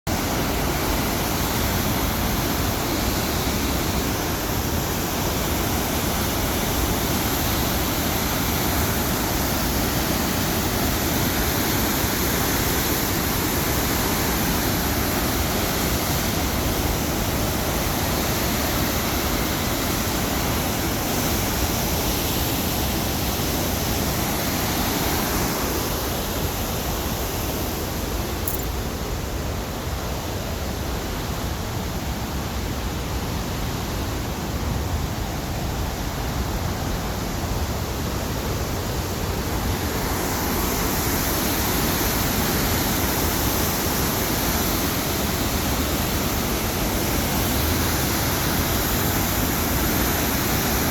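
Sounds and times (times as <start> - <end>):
rushing water roar: 0.1 - 50.9.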